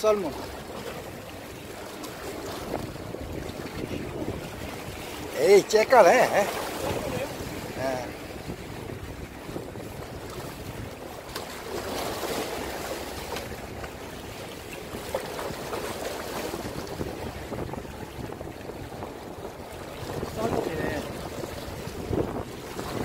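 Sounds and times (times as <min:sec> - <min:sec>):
waves lapping against rocks: 0:00.0 - 0:23.0
wind buffeting microphone: 0:00.4 - 0:23.0.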